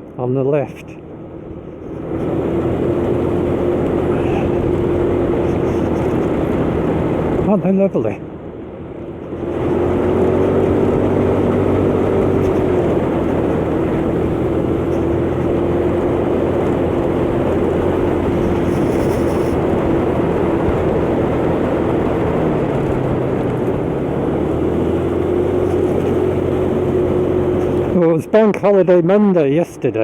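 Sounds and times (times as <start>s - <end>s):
road noise: 0.0s - 30.0s
motor scooter engine running: 1.0s - 7.5s, 8.2s - 28.6s
wind rush: 1.9s - 7.6s, 8.2s - 28.0s.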